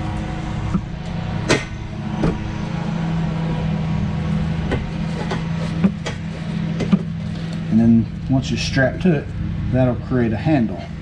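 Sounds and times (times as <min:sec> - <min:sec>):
steady low engine hum: 0:00.0 - 0:11.0.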